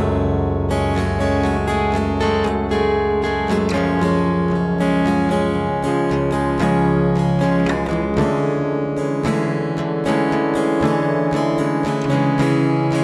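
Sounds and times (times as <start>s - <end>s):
rapidly picked strummed guitar: 0.0s - 13.0s.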